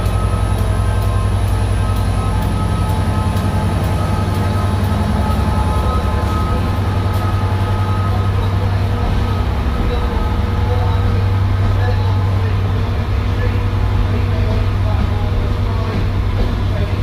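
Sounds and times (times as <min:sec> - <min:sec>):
diesel locomotive engine drone: 0:00.0 - 0:17.0
high whine: 0:00.0 - 0:17.0.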